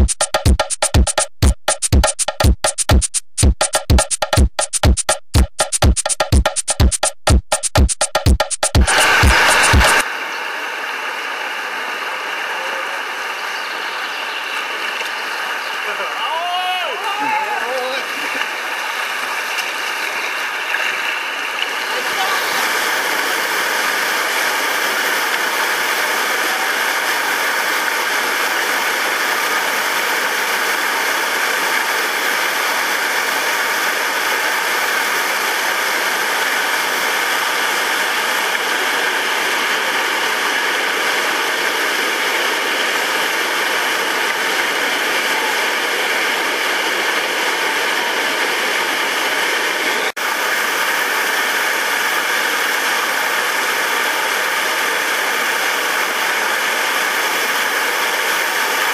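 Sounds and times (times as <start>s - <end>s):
whitewater rapids rushing: 8.8s - 58.9s.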